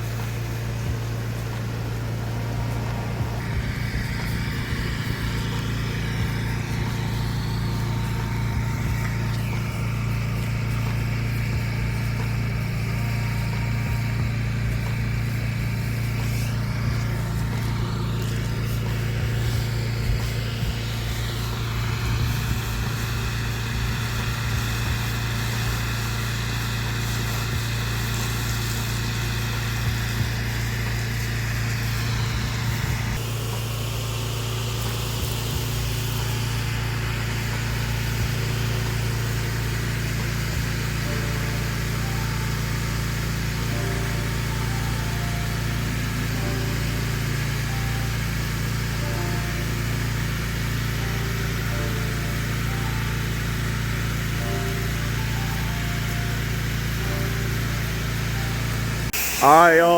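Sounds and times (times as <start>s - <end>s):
pressure washer engine running: 0.0s - 59.9s.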